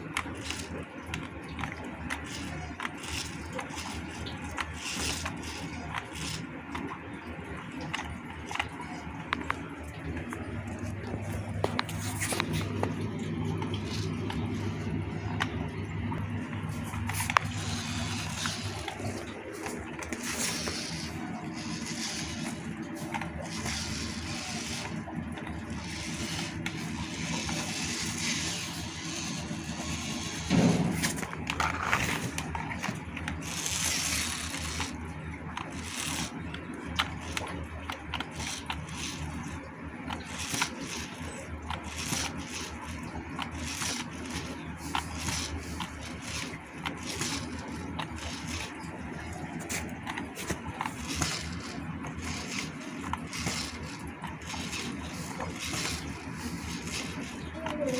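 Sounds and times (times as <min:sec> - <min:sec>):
small electric motor running: 0:00.0 - 0:07.0, 0:10.8 - 0:15.6, 0:16.8 - 0:57.9
scraping and clicking: 0:00.0 - 0:57.9.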